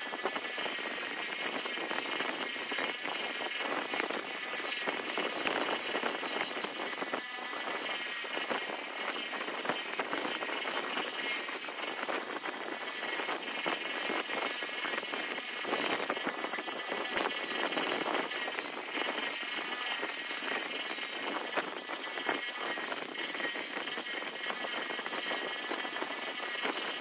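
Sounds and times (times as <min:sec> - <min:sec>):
small high-speed motor rattling: 0:00.0 - 0:27.0.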